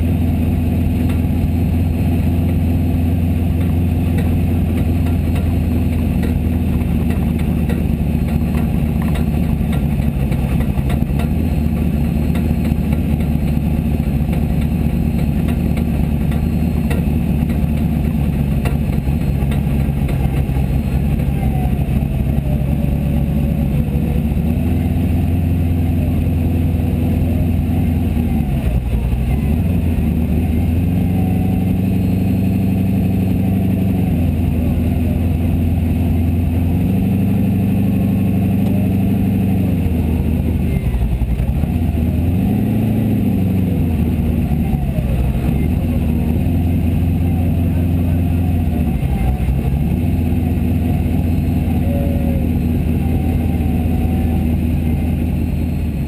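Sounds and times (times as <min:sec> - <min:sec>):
buggy engine running at low revs: 0:00.0 - 0:56.0.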